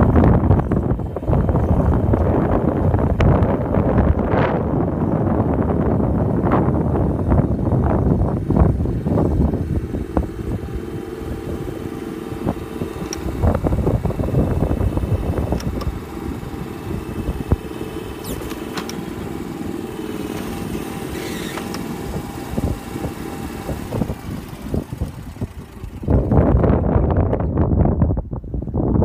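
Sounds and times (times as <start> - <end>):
vehicle engine running: 0.0 - 28.1.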